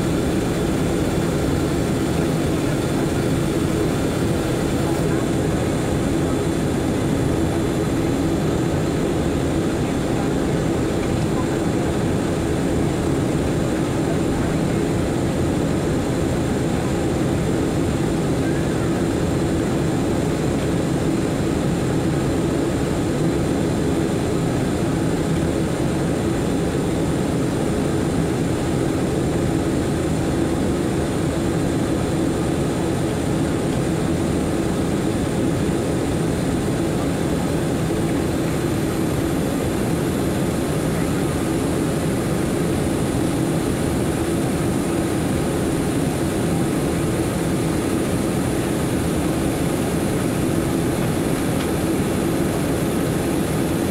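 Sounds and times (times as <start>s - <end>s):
engine and airflow drone: 0.0s - 53.9s.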